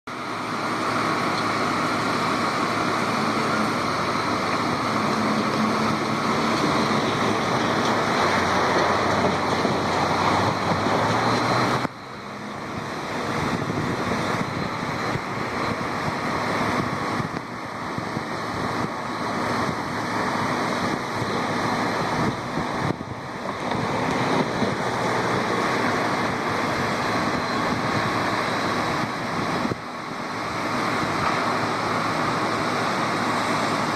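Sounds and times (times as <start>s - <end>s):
water rushing through dam: 0.1s - 33.9s.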